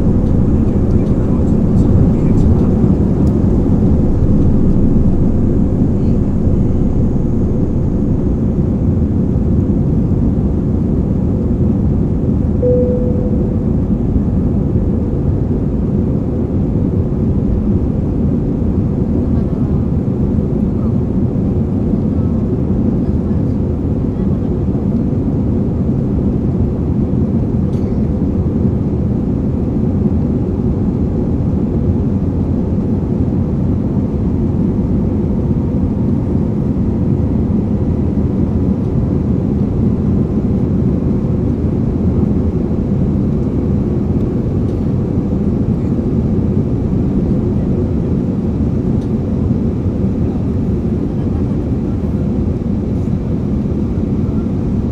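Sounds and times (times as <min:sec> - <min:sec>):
airplane engines rumbling: 0:00.0 - 0:54.9.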